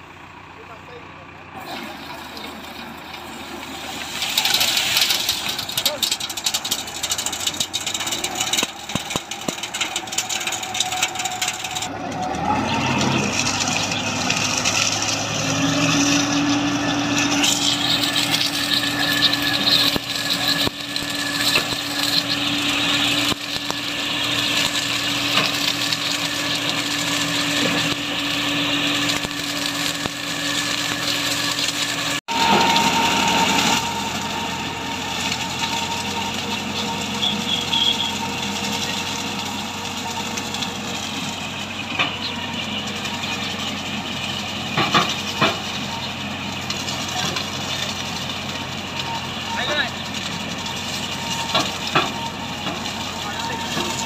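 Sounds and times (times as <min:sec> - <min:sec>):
tractor engine under load: 0:00.0 - 0:54.0
harvester cutting cane: 0:01.6 - 0:54.0.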